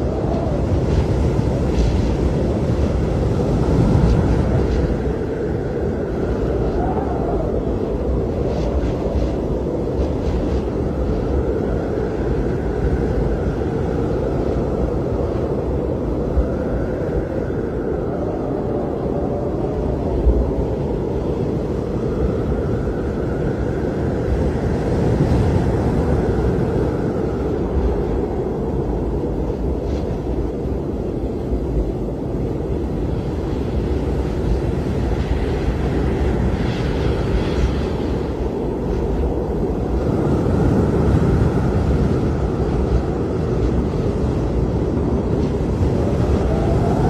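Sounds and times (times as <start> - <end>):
blizzard wind rumbling and howling: 0.0 - 47.0.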